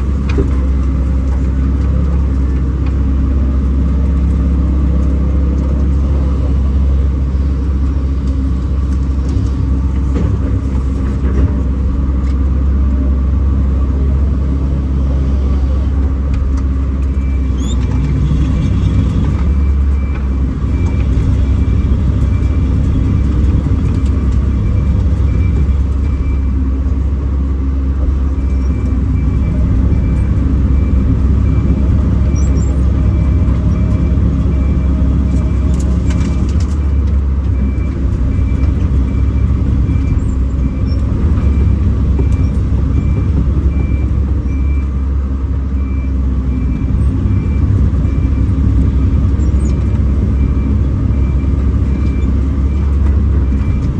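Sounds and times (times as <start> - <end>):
excavator diesel engine rumbling: 0.0 - 53.9.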